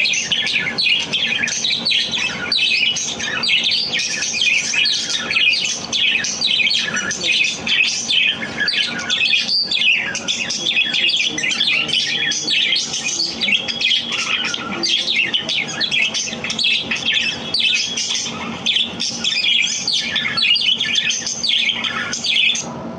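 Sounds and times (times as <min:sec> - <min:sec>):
budgerigar squawks: 0:00.0 - 0:22.7
budgerigars chirping and chattering: 0:00.0 - 0:22.7.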